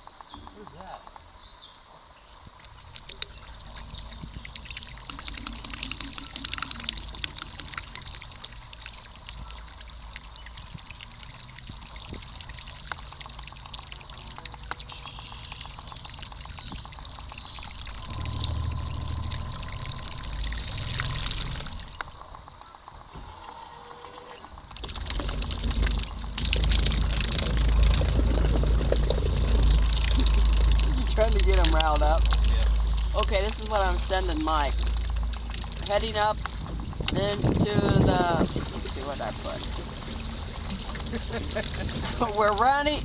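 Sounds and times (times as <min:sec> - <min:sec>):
water splashing along canoe hull: 0:00.0 - 0:43.0
low rumble: 0:02.5 - 0:23.4, 0:24.4 - 0:43.0.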